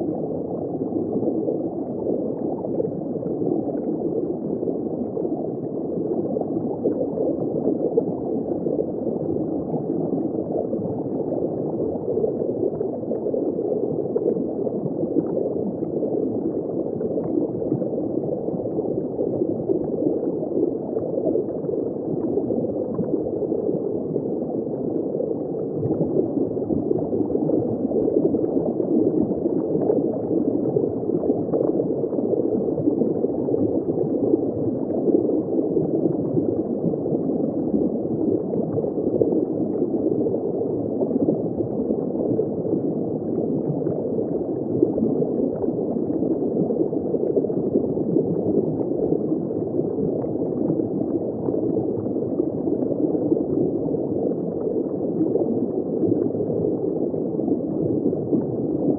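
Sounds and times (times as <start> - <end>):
underwater bubbling: 0.0 - 58.9.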